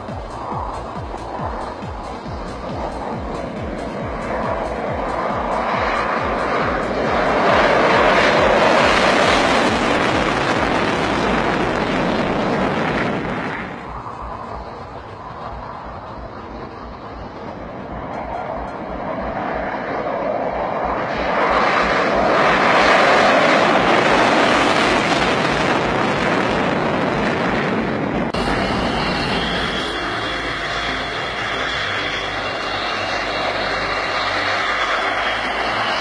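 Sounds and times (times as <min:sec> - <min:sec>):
jet engine roaring with whine: 0:00.0 - 0:36.0.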